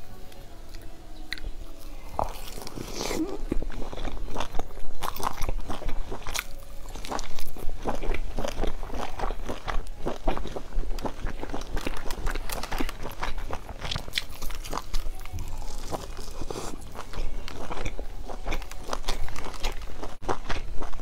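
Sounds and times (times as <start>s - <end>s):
person chewing food: 0.2s - 21.0s.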